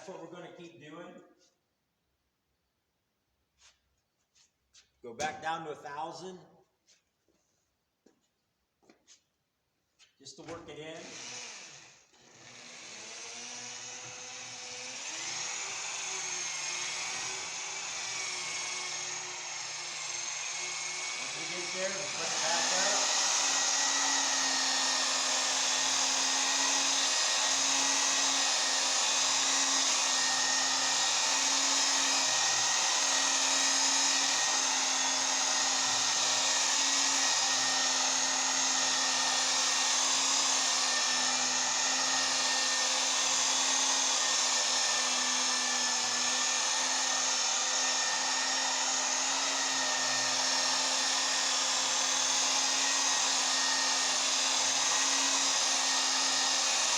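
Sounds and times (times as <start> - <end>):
electric rotary buffer whirring: 11.0 - 56.9.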